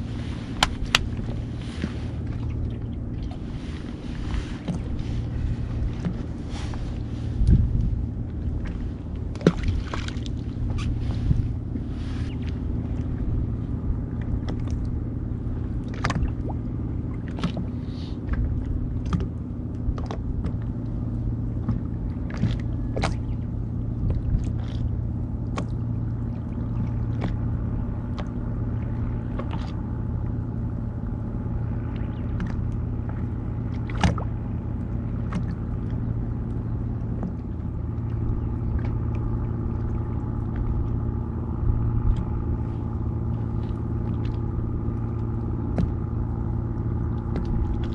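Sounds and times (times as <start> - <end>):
boat motor rumbling: 0.0 - 47.9.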